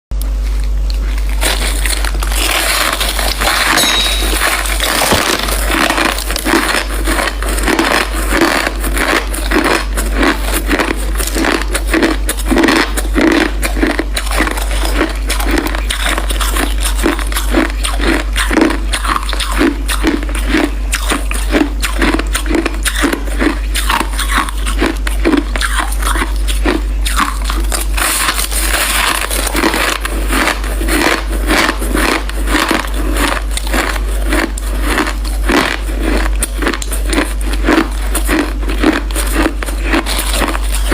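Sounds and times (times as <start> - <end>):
chewing crunchy ice: 0.2 - 40.9.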